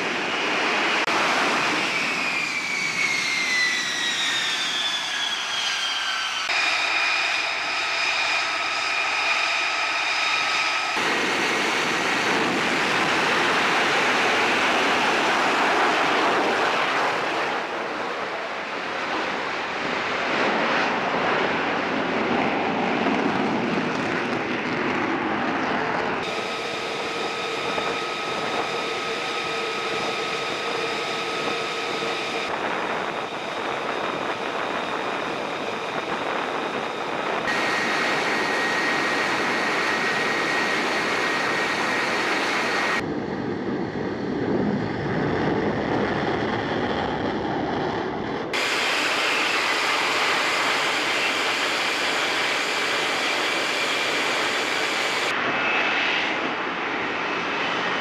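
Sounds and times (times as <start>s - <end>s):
jet engine whining: 0.0s - 58.0s.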